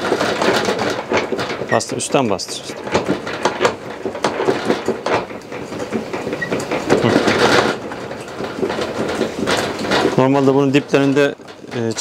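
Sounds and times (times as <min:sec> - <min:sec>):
hand-cranked extractor rattling: 0:00.0 - 0:12.0.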